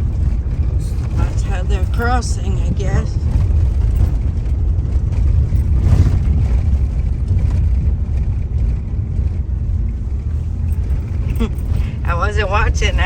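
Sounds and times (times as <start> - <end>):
car interior driving rumble: 0.0 - 13.0.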